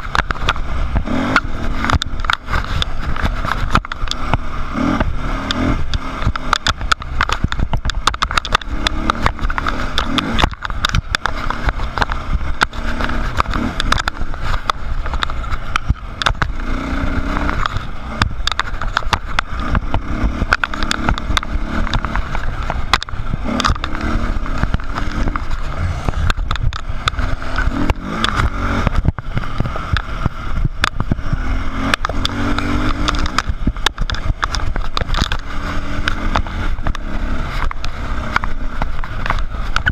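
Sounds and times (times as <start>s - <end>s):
bike knocking and rattling: 0.0s - 39.9s
dirt bike engine revving: 0.0s - 39.9s.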